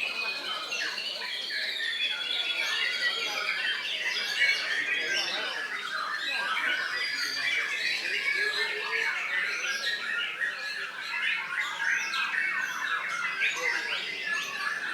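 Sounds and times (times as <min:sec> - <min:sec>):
songbirds singing: 0:00.0 - 0:14.9.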